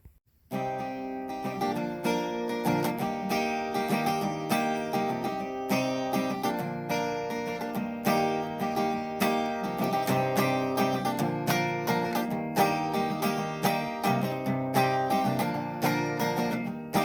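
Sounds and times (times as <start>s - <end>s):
acoustic guitar music: 0.4s - 17.0s.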